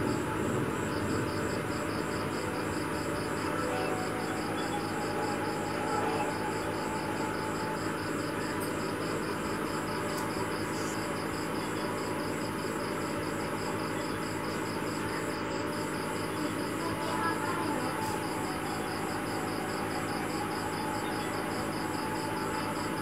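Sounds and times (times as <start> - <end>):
steady hum and hiss: 0.0 - 23.0.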